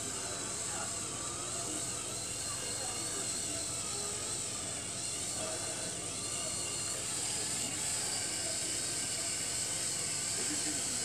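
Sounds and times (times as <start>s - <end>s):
electric motor whirring through gears: 0.0s - 11.0s.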